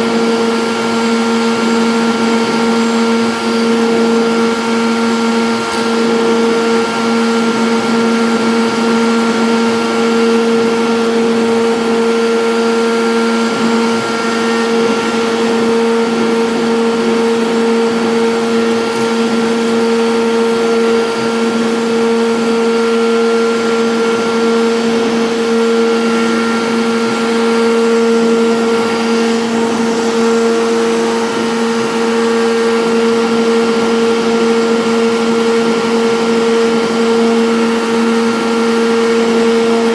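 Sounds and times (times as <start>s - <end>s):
bit cutting wood: 0.0s - 39.9s
router spindle humming: 0.0s - 39.9s.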